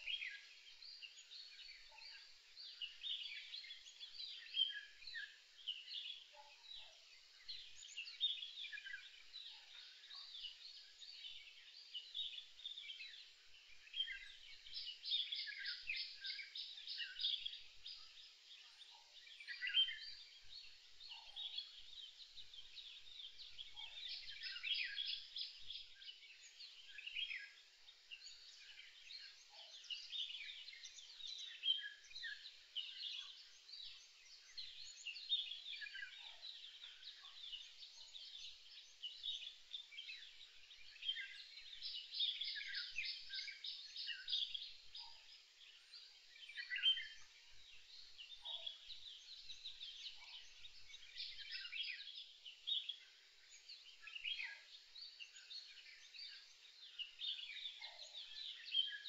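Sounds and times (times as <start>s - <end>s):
small birds singing and chirping: 0.0s - 59.0s.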